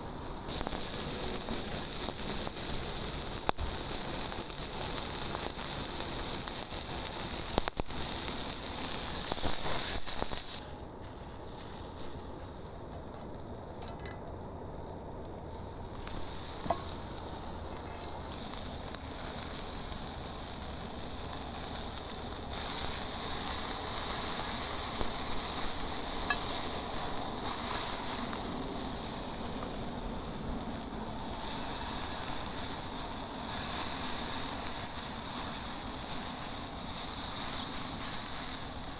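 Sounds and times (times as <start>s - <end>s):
steak sizzling on a griddle: 0.0s - 38.9s.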